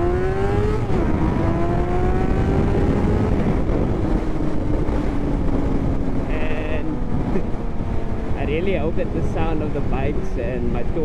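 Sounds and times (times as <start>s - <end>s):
motorcycle engine accelerating: 0.0s - 10.9s
wind noise on microphone: 0.0s - 11.0s.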